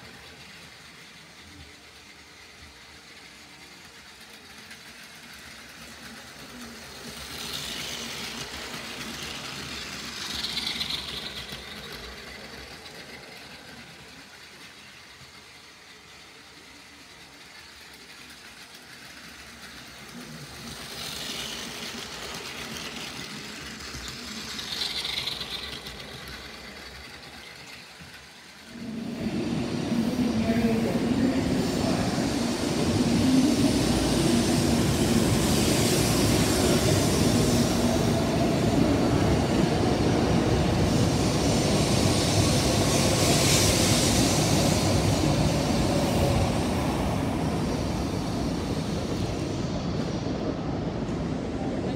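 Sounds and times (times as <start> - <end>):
toy train motor whine and rattle: 0.0 - 50.4
train rushing past: 0.0 - 51.9.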